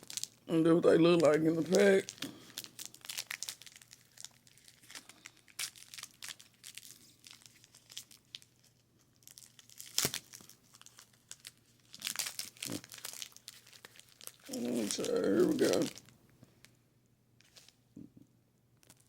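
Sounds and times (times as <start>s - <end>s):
plastic packaging crinkling: 0.0s - 16.8s, 17.4s - 17.8s, 18.8s - 19.0s.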